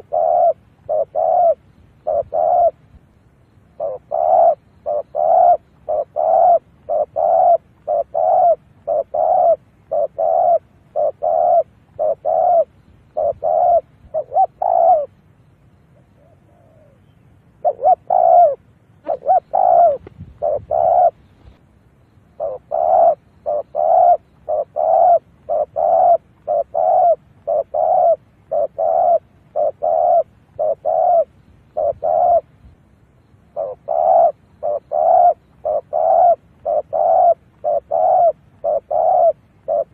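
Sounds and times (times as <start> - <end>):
dove cooing: 0.0 - 15.2, 15.8 - 21.6, 22.3 - 39.9.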